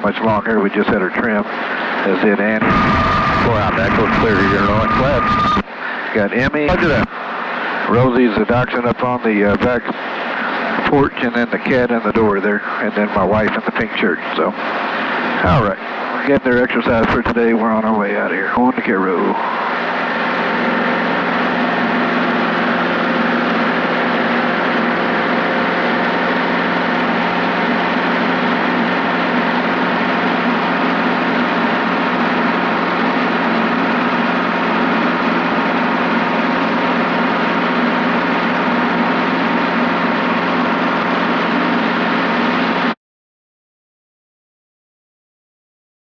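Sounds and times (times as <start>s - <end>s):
helicopter engine and rotors drone: 0.0s - 43.0s.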